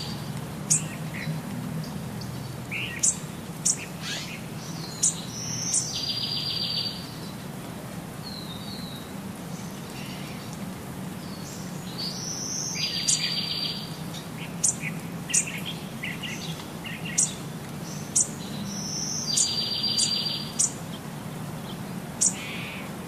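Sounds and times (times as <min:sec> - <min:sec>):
bird chirping: 0:00.0 - 0:07.4, 0:11.2 - 0:21.0, 0:21.6 - 0:22.9.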